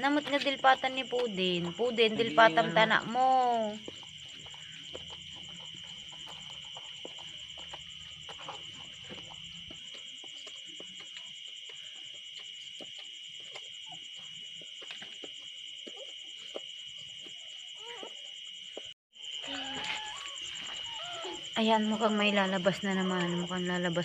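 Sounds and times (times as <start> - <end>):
dog licking puppies: 0.0 - 18.9, 19.5 - 24.0
night insects trilling: 0.0 - 24.0.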